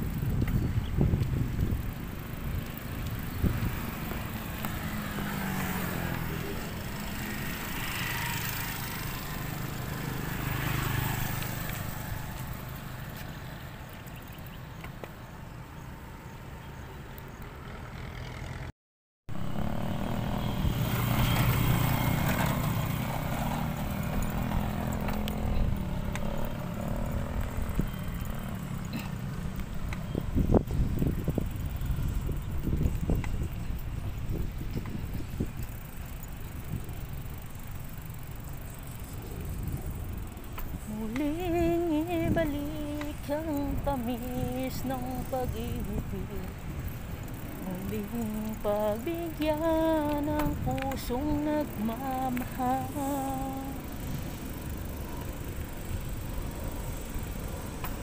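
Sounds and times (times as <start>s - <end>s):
bicycle tyre rumble: 0.0s - 18.7s, 19.3s - 58.0s
motor vehicle passing: 0.0s - 18.7s, 19.3s - 58.0s
wind: 0.0s - 18.7s, 19.3s - 58.0s.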